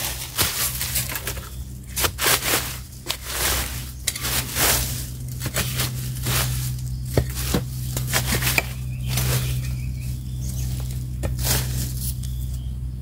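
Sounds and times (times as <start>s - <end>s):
crunching dry leaf litter: 0.0s - 12.9s
low hum: 0.0s - 13.0s.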